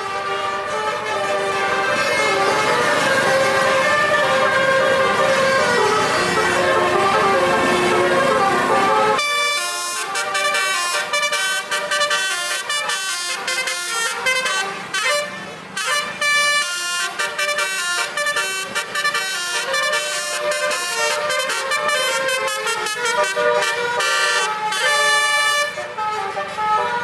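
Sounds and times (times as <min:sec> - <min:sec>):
engine rumble: 0:00.0 - 0:27.0
gliding horn tones: 0:00.0 - 0:27.0
musical air horn tune: 0:00.0 - 0:27.0.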